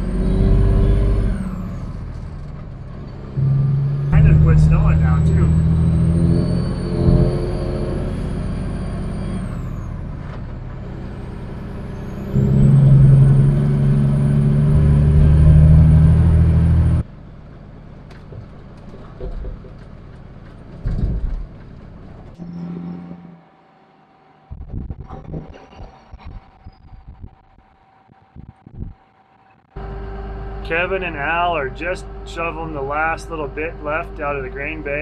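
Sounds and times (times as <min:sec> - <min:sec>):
truck diesel engine in cab: 0:00.0 - 0:25.6, 0:26.6 - 0:35.0.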